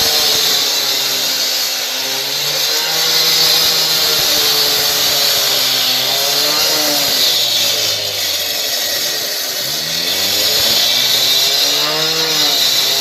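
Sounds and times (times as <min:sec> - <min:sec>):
power saw cutting concrete: 0:00.0 - 0:13.0.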